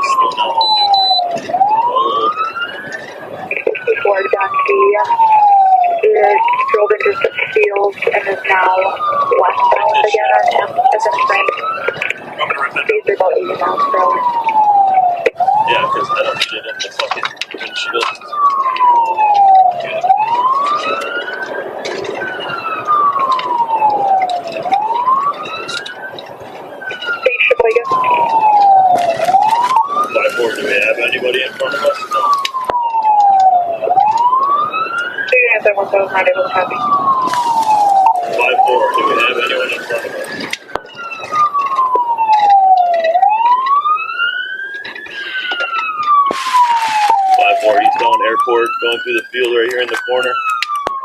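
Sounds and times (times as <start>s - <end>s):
police siren wailing: 0.0s - 51.0s
road noise: 0.0s - 51.0s.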